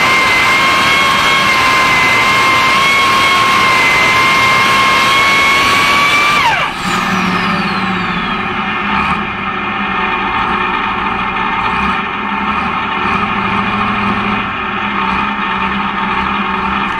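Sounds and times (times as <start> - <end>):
high whine winding down: 0.0 - 16.9
tractor diesel engine revving down: 0.0 - 16.9.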